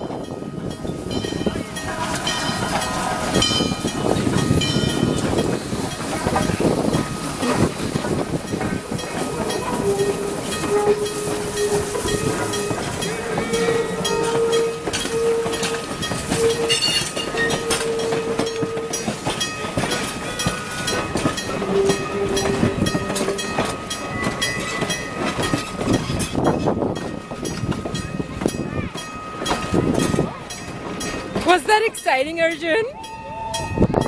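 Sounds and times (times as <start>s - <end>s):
train wheels clicking over rail joints: 0.0s - 34.0s.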